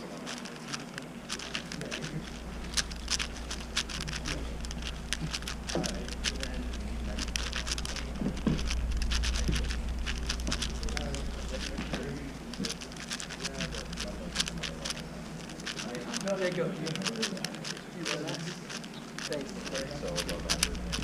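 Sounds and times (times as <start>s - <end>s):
speed cube clicking: 0.0s - 21.0s.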